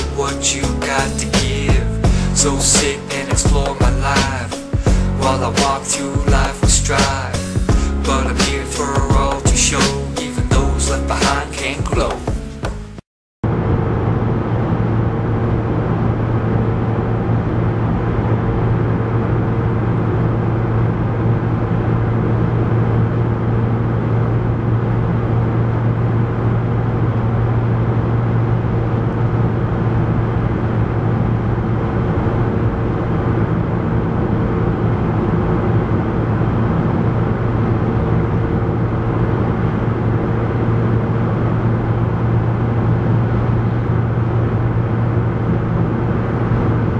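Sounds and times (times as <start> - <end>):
road vehicle engine and road noise: 0.0 - 46.9.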